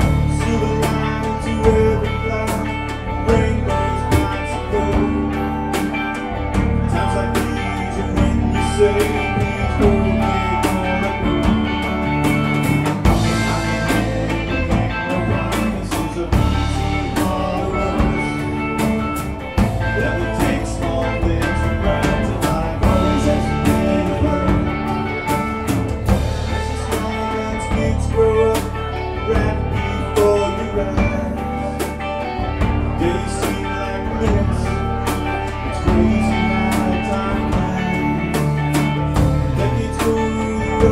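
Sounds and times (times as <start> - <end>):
bass guitar: 0.0 - 40.9
drum kit beat: 0.0 - 40.9
electric guitars: 0.0 - 40.9.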